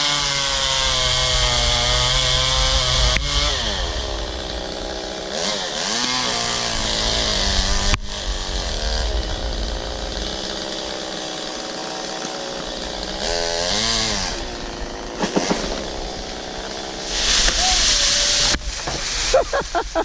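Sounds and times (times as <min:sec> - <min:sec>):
chainsaw running: 0:00.0 - 0:20.0.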